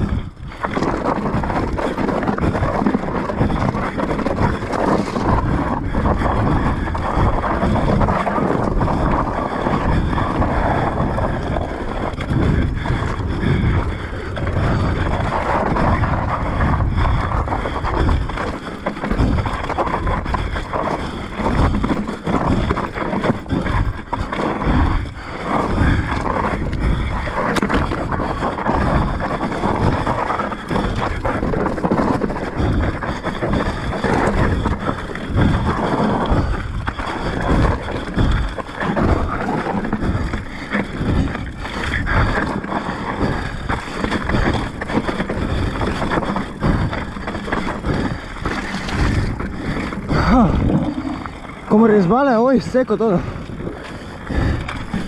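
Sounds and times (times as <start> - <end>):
bike knocking and rattling: 0.0 - 55.0
wind buffeting microphone: 0.0 - 55.0.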